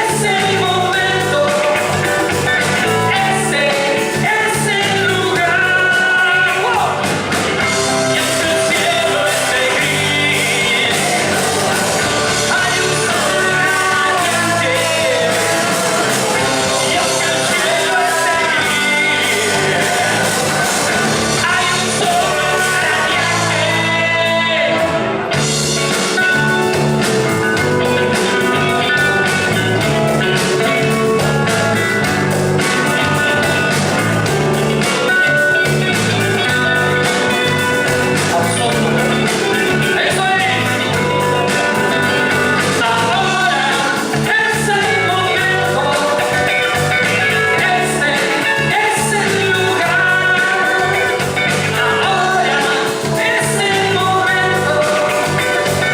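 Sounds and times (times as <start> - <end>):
band music with singing: 0.0 - 55.9.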